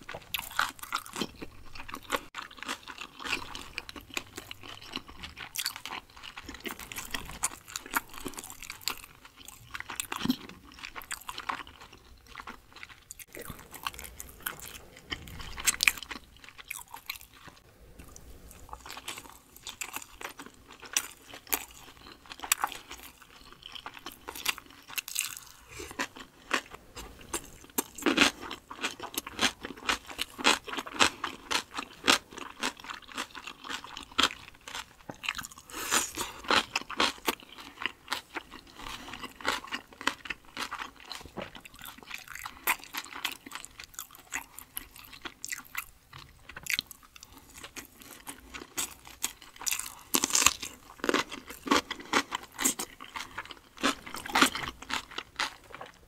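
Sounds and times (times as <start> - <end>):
crisp chewing crunches: 0.0 - 56.0.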